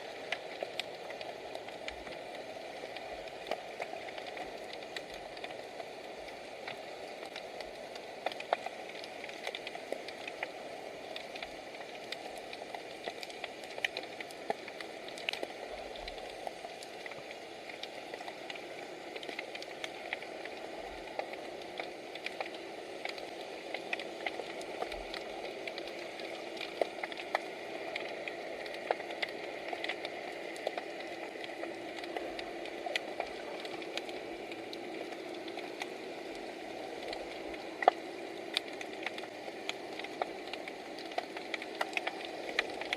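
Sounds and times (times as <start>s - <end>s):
sharp underwater clicks: 0.0s - 42.9s.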